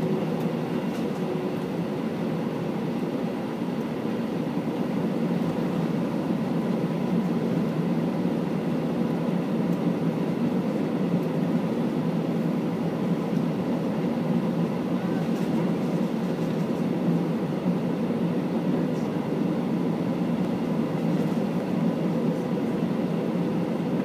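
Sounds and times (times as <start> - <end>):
jet engines idling rumble: 0.0 - 24.0.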